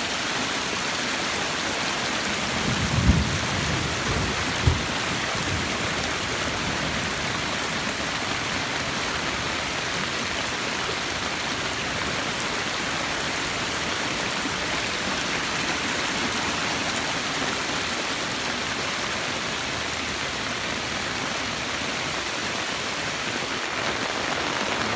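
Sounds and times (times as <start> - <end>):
heavy rain falling: 0.0 - 24.9
runoff water rushing over rocks: 0.0 - 24.9.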